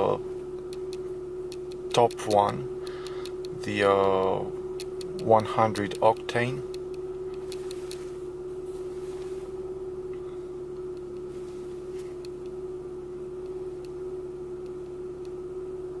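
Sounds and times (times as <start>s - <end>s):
car engine idling hum: 0.0s - 16.0s.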